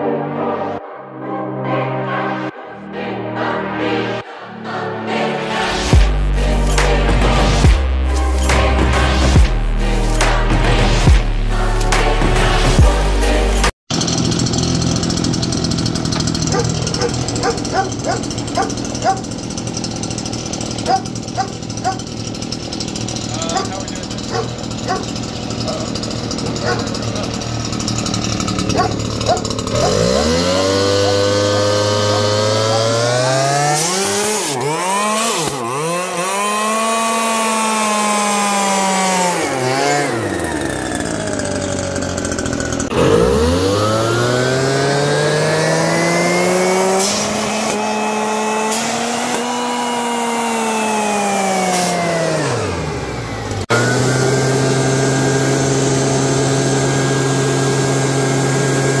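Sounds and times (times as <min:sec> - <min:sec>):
leaf blower revving: 0:05.7 - 0:59.0.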